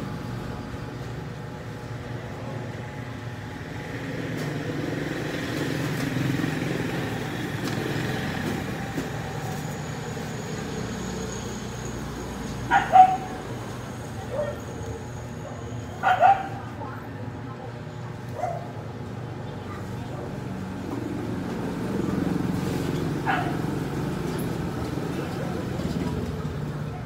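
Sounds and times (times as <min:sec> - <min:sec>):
road traffic rumbling: 0:00.0 - 0:27.0.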